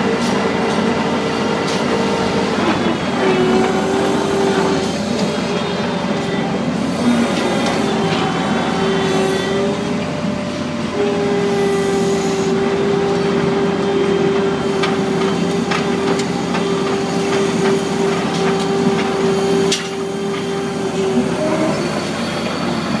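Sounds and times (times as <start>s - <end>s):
feed mixer whine: 0.0s - 23.0s.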